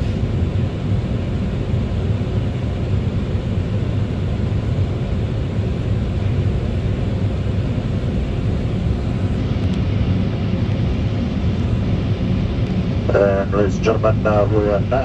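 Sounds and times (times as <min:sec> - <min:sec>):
air-conditioning hiss: 0:00.0 - 0:15.0
jet engines low rumble: 0:00.0 - 0:15.0.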